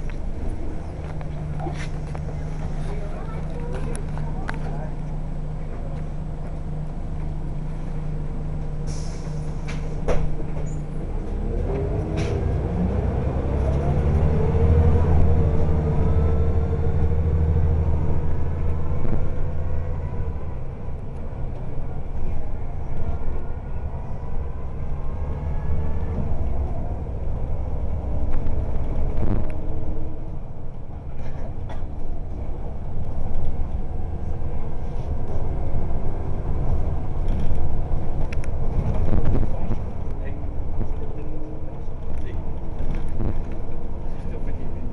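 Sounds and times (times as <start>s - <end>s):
bus engine accelerating: 0.0s - 44.9s.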